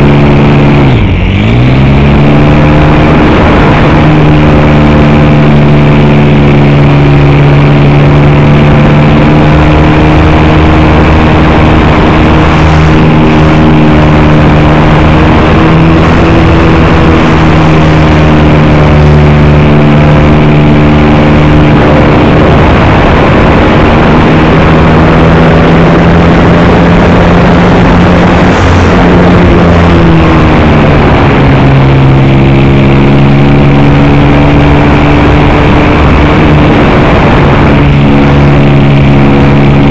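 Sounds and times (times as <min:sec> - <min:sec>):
rushing noise: 0:00.0 - 0:39.9.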